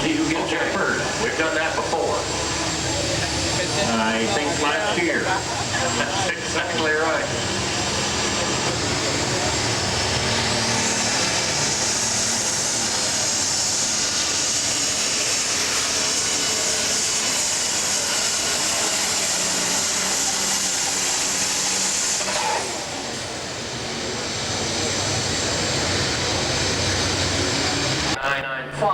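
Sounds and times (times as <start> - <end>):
tractor engine with high whine: 0.0 - 28.3.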